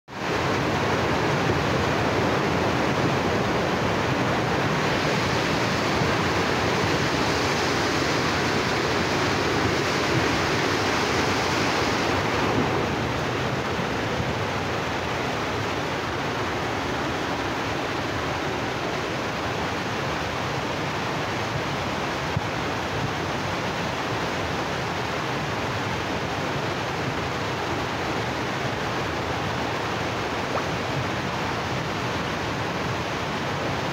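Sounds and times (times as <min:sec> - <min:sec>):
flooded river rushing: 0:00.1 - 0:33.9.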